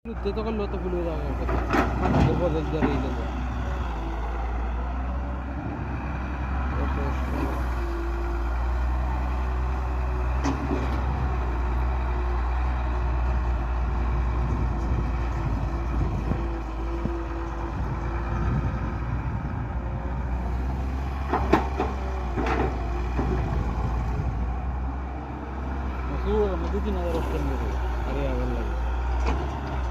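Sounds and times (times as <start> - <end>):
diesel tractor engine running: 0.0 - 29.9.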